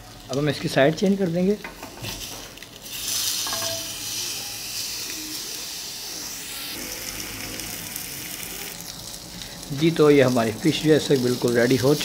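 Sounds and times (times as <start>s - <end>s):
fish sizzling in a grill pan: 0.0s - 12.0s.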